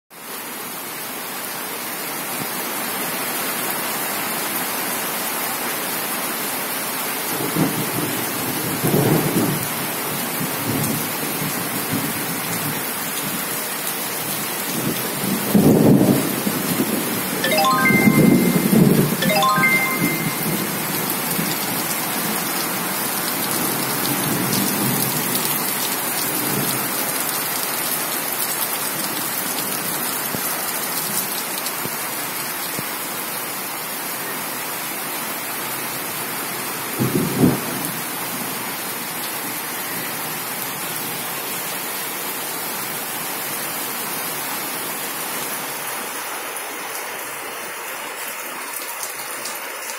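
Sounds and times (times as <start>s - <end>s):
rain on foliage: 0.2s - 49.9s.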